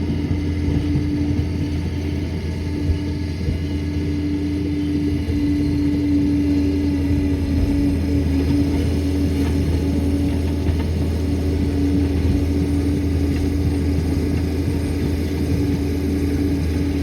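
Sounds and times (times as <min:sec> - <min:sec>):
dozer diesel engine rumbling: 0:00.0 - 0:17.0.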